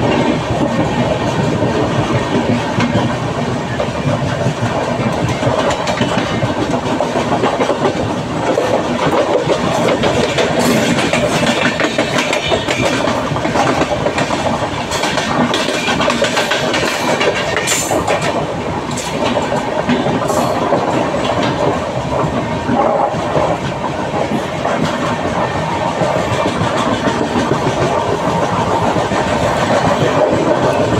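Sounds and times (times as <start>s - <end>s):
train rumbling on track: 0.0s - 30.9s
wheels clicking over rail joints: 0.0s - 30.9s.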